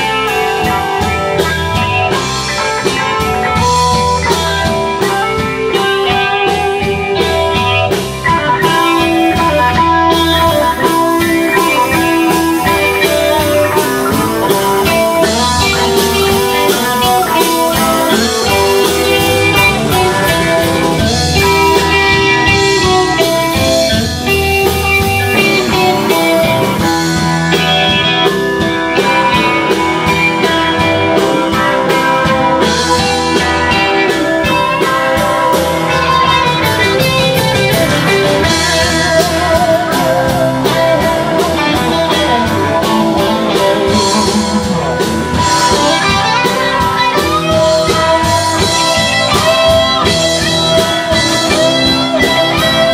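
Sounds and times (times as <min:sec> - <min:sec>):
blues band playing: 0:00.0 - 0:52.9.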